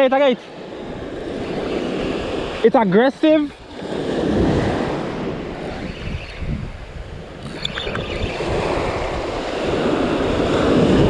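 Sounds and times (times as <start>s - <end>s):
wind buffeting microphone: 0.0s - 2.7s, 3.3s - 11.0s
surf washing onto beach: 0.0s - 11.0s.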